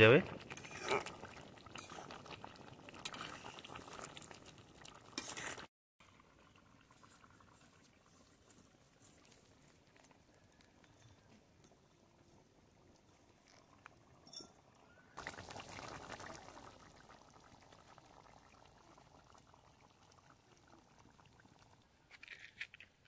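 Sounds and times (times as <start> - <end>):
curry bubbling in a pot: 0.0 - 22.1.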